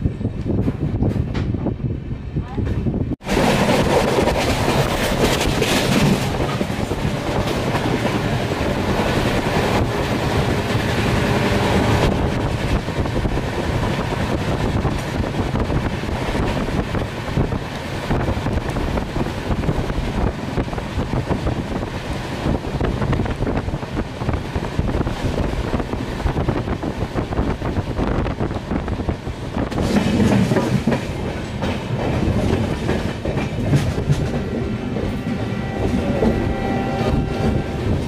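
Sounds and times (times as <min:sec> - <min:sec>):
wheels rumbling on rails: 0:00.0 - 0:38.0.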